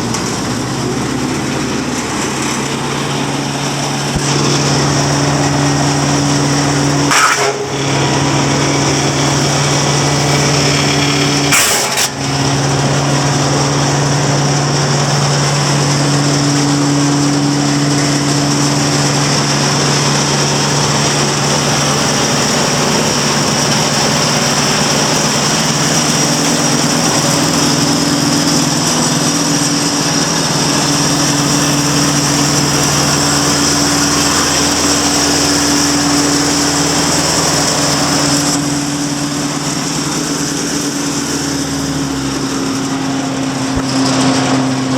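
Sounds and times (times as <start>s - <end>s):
diesel engine drone: 0.0s - 44.9s
noisy bursts: 0.0s - 44.9s
wood chipper running: 0.0s - 44.9s.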